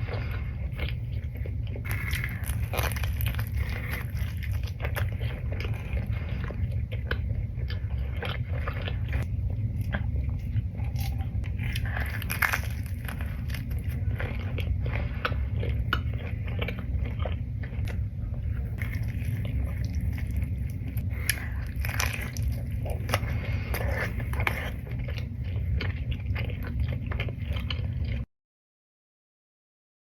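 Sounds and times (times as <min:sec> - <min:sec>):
chewing and biting pizza: 0:00.0 - 0:28.3
steady low hum: 0:00.0 - 0:28.3.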